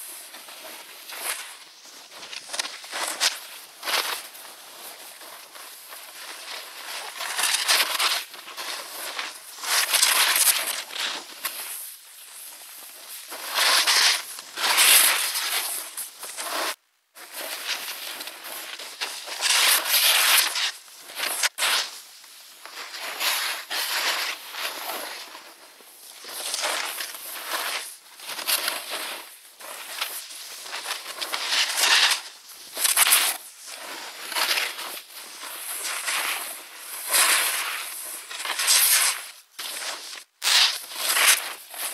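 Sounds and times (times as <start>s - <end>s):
snowboard scraping through snow: 0.0s - 41.9s.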